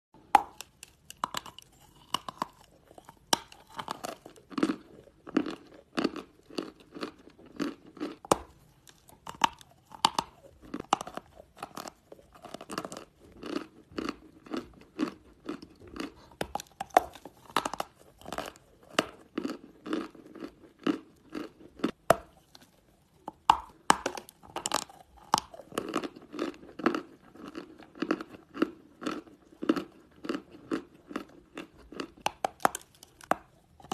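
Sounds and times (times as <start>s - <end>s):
person chewing: 0.2s - 33.9s.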